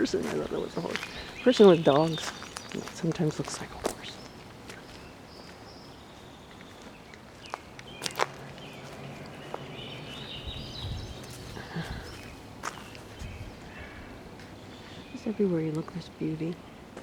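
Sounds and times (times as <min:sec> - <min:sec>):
songbirds twittering: 0:00.0 - 0:17.0.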